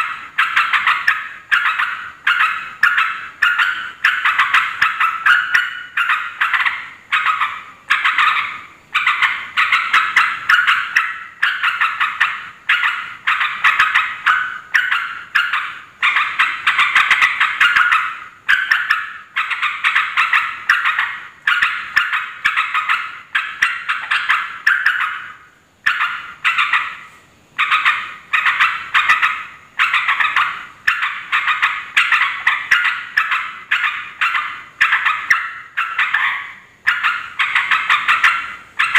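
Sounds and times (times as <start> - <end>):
bulbul chattering: 0.0 - 38.9.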